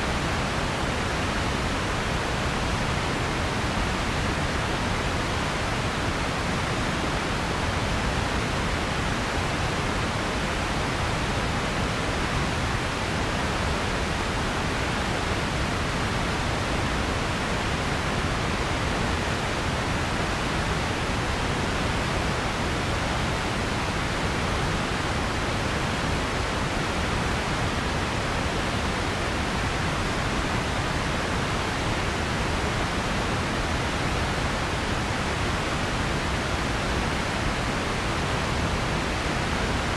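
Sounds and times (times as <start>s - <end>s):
steady hiss noise: 0.0s - 39.9s.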